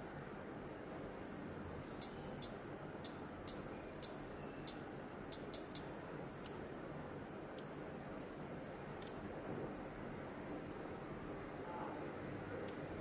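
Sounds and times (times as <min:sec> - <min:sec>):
faint high hiss: 0:00.0 - 0:13.0.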